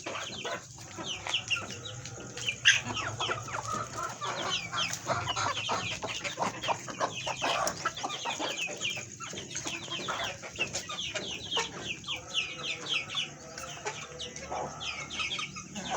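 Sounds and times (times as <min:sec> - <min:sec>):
flock of chickens calling: 0:00.0 - 0:15.9.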